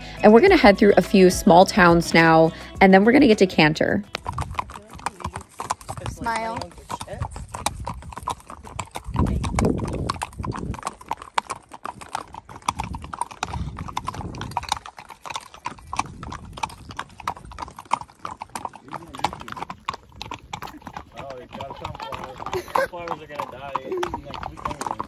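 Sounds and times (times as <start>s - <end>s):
horse hooves clip-clopping: 0.0s - 25.0s.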